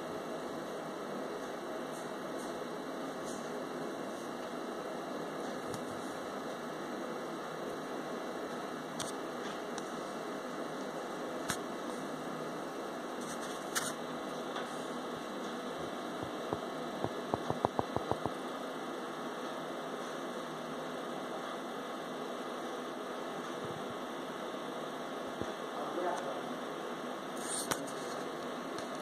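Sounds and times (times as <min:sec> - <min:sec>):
background hum and hiss: 0:00.0 - 0:29.0.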